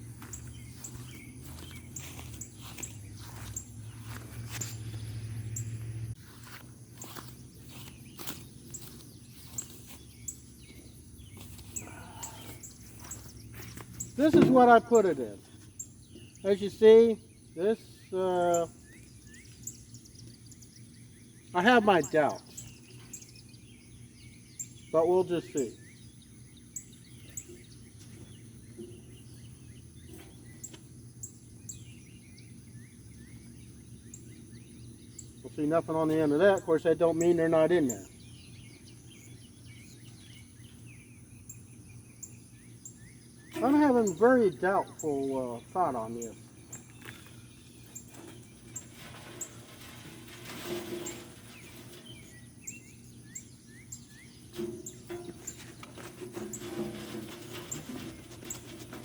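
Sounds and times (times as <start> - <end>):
bird chirps: 0.0 - 5.8, 6.4 - 59.0
insects droning: 0.0 - 59.0.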